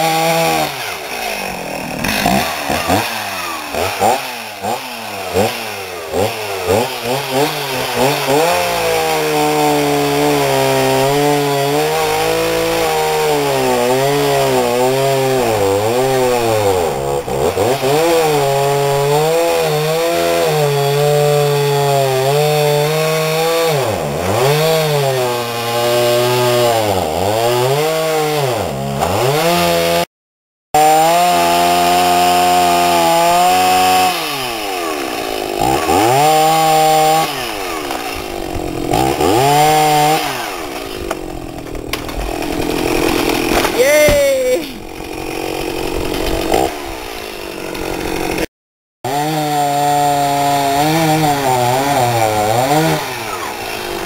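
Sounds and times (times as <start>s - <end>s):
chainsaw cutting wood: 0.0s - 30.1s, 30.8s - 54.0s.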